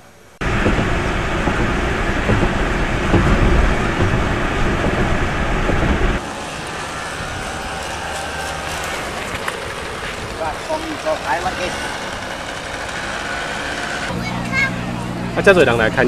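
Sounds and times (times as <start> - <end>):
roadside street noise: 0.0 - 16.0
road and wind noise inside car: 0.1 - 16.0.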